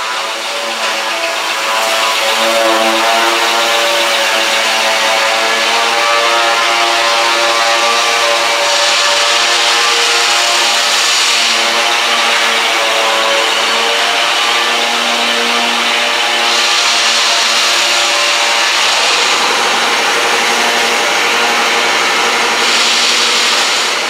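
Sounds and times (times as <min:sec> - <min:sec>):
shop machinery motor hum: 0:00.0 - 0:24.0
strong machinery hiss: 0:00.0 - 0:24.0.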